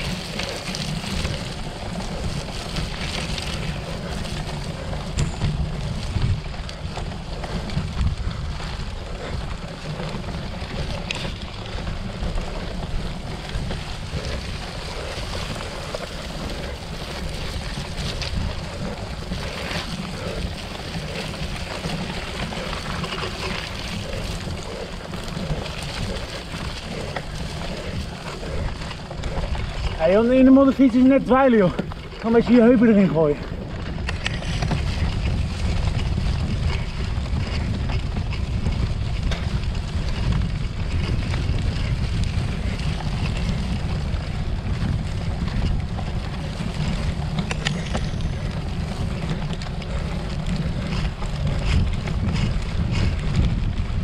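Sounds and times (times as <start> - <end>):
bike tyres rumbling on mud: 0.0 - 54.0
wind buffeting microphone: 0.0 - 54.0.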